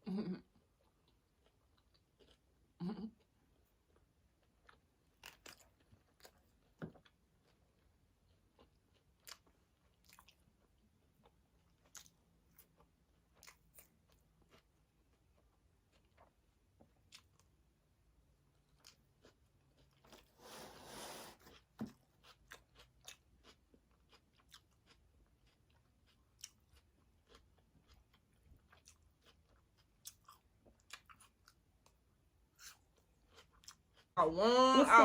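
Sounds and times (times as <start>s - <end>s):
chewing food: 0.4s - 20.6s, 21.4s - 34.4s.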